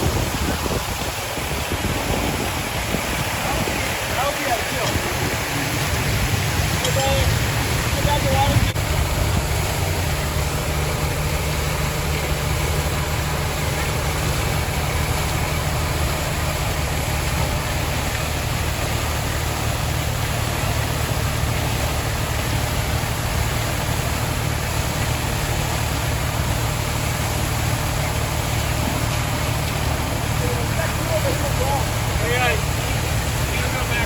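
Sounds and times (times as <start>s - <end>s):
constant hiss: 0.0s - 34.0s
vehicle engine idling: 0.0s - 34.0s.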